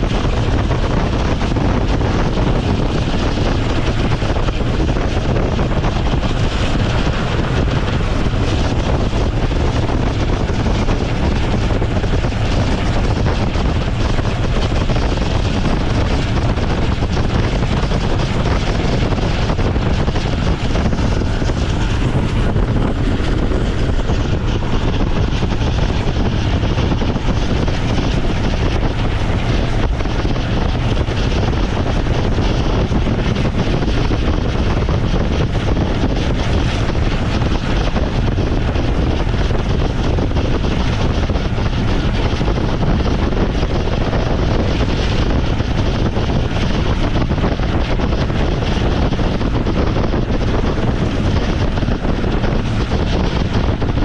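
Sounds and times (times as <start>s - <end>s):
rushing wind: 0.0s - 54.0s
train wheels rumbling on rails: 0.0s - 54.0s.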